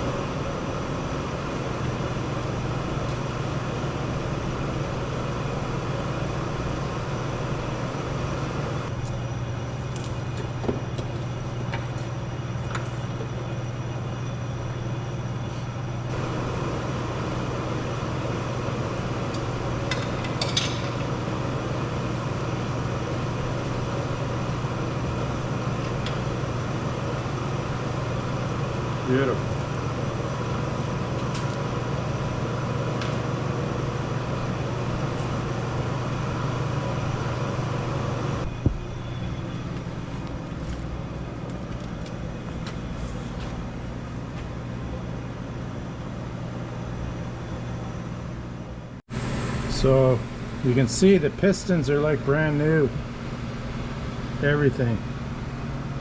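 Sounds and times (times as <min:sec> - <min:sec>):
machine humming: 0:00.0 - 0:44.2, 0:48.9 - 0:56.0.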